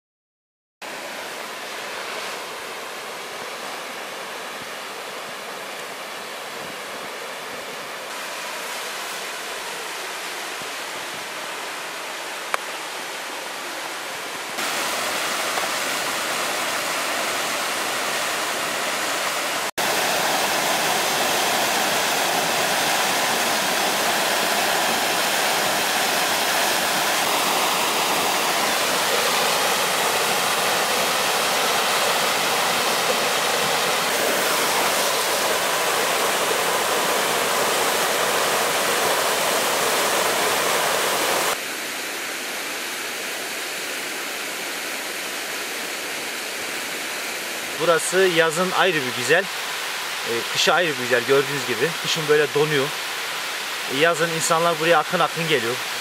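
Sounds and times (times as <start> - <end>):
waterfall rushing: 0.8 - 56.0.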